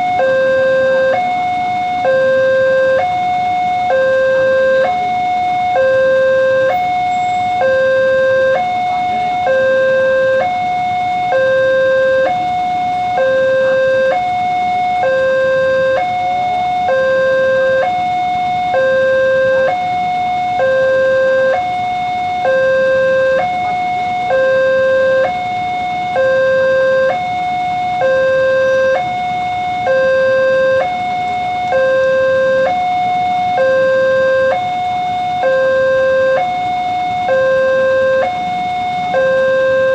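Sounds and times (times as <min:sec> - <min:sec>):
level crossing warning signal: 0:00.0 - 0:39.9.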